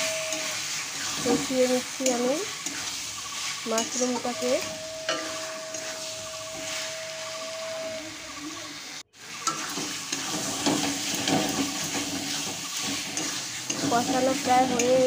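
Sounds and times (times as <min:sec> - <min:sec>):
metal spatula scraping a pan: 0:00.0 - 0:08.2, 0:09.2 - 0:15.0
light sizzle of frying: 0:00.0 - 0:15.0.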